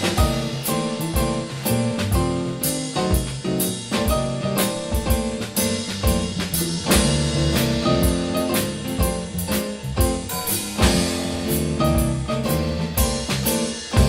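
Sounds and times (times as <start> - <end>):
drum and cymbal beat: 0.0 - 14.0
piano: 0.0 - 14.0.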